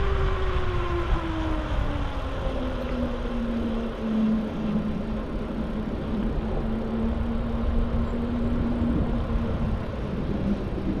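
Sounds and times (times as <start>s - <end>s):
bike tyres humming on asphalt: 0.0s - 11.0s
wind rumble on microphone: 0.0s - 11.0s.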